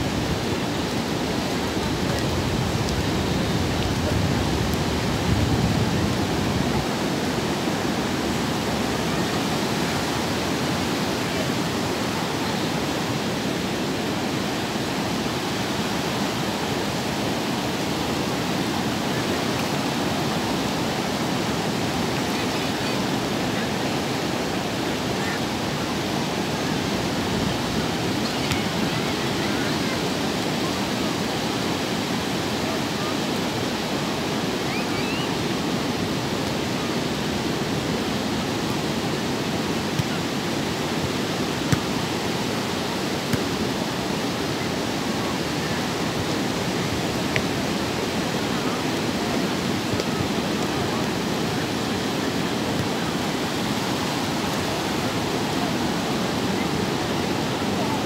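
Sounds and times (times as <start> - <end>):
surf breaking on a beach: 0.0 - 58.0.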